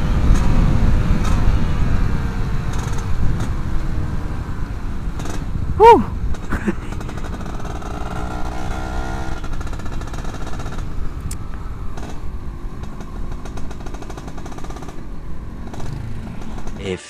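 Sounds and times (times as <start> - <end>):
two-stroke motorcycle engine revving: 0.1 - 11.3, 11.9 - 16.9.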